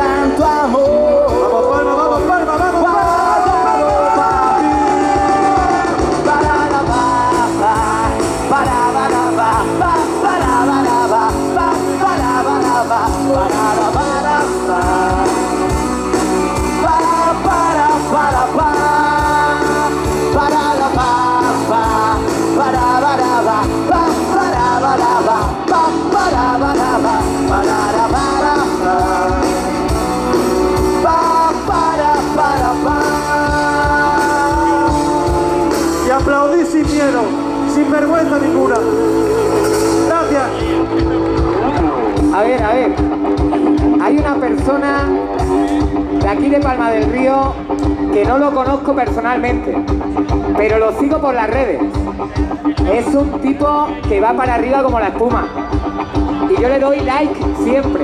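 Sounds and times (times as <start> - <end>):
live pop-rock band playing: 0.0 - 58.0.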